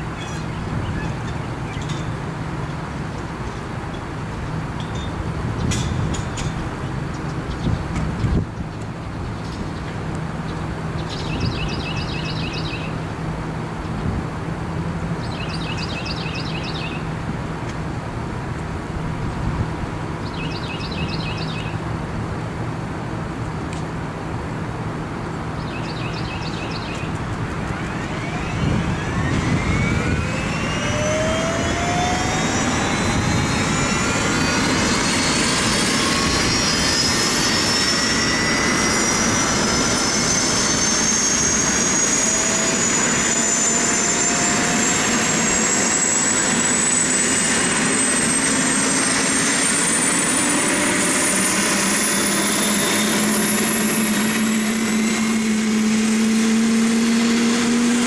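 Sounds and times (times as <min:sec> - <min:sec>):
aircraft engine rumble: 0:00.0 - 0:58.0
turbine whine rising: 0:00.0 - 0:58.0.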